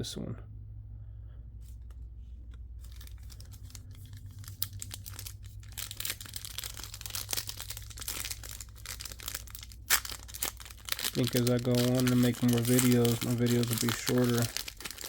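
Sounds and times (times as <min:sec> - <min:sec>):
plastic wrapper crinkling: 0:02.6 - 0:15.0.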